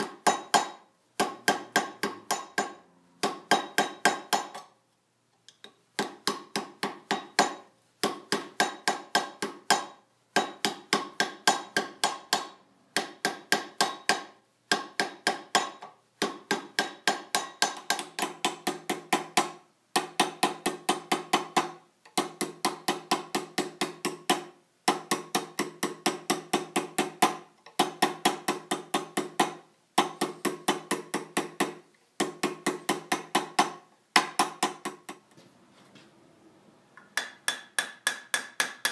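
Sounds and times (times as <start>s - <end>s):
hammer striking metal with ringing: 0.0s - 4.8s, 6.0s - 34.9s, 37.2s - 38.9s.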